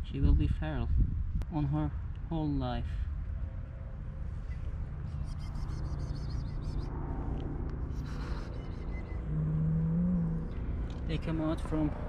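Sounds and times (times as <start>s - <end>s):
road traffic rumble: 0.0s - 12.0s
engine hum: 1.3s - 12.0s.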